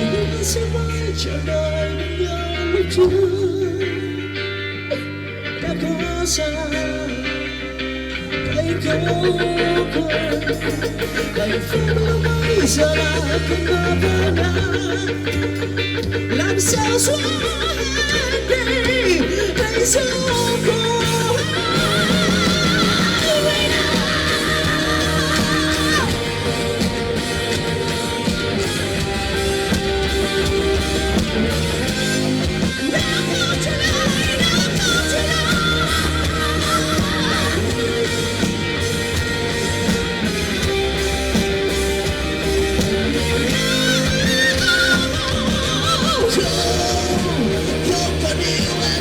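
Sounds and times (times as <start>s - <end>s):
pop-rock music with guitar: 0.0s - 49.0s.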